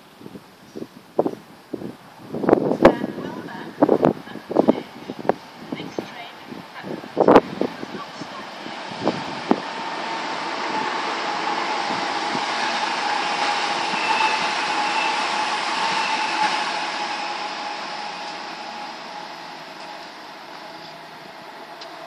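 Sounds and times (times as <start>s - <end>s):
passenger train passing: 0.0s - 22.0s
steady train whine: 0.0s - 22.0s.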